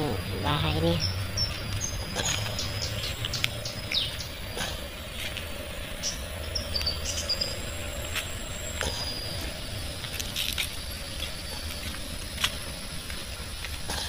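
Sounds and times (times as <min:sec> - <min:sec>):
footsteps on ground: 0:00.0 - 0:14.0
insects chirring: 0:00.0 - 0:14.0.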